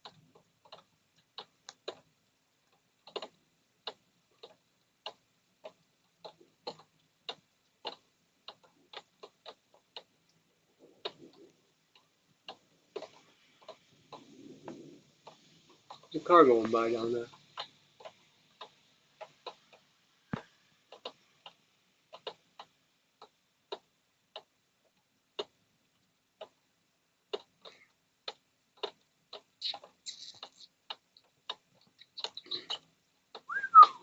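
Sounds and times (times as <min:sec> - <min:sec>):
faint ticks and clicks: 0:00.0 - 0:34.0.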